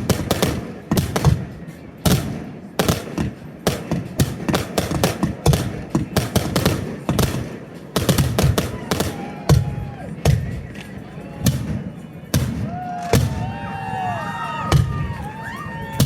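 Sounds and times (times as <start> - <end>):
fireworks bangs: 0.0 - 16.0
low rumble of fireworks: 0.0 - 16.0.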